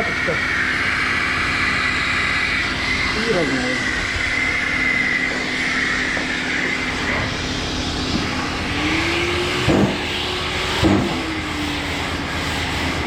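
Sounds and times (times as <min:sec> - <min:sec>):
power sander running: 0:00.0 - 0:13.0
shop machinery running: 0:00.0 - 0:13.0.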